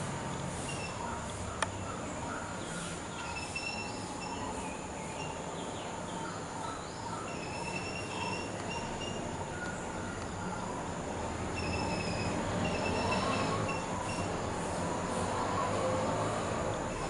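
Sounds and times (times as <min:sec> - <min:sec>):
steady background hiss: 0:00.0 - 0:17.0
birds chirping: 0:00.2 - 0:17.0.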